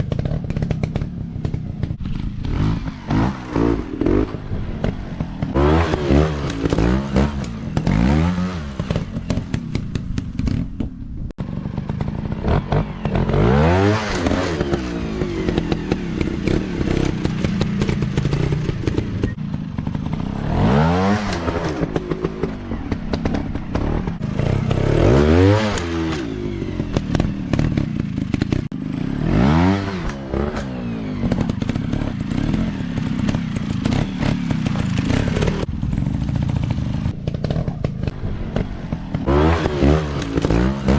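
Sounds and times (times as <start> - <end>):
dirt bike engines revving: 0.0 - 10.8, 11.4 - 40.9.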